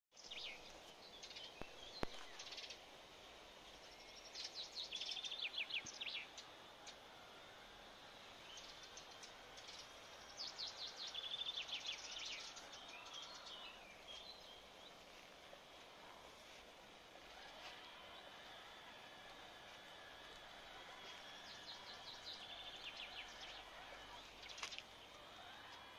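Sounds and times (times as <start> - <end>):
birds singing: 0.1 - 25.9.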